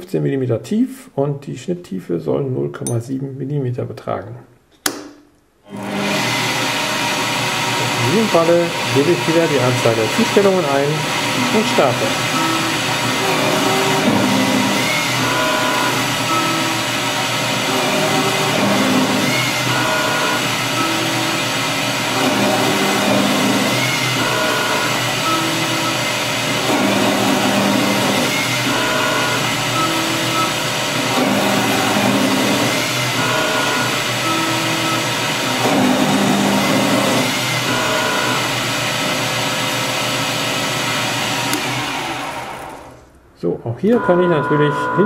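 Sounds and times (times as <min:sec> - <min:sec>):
lathe spindle running: 0:05.7 - 0:43.0
stepper motors whining: 0:05.7 - 0:43.1, 0:43.9 - 0:45.0.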